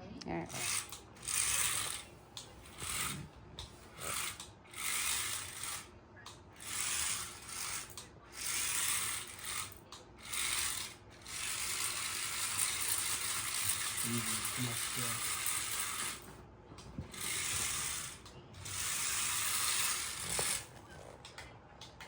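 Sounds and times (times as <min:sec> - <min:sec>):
toy robot motors whirring: 0:00.4 - 0:22.0.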